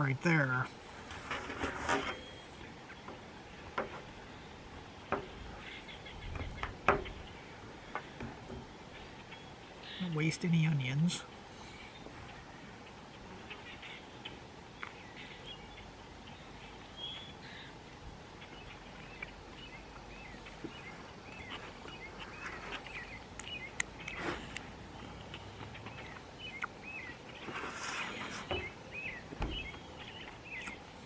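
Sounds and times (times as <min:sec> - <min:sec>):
small birds chirping: 0:02.0 - 0:31.0.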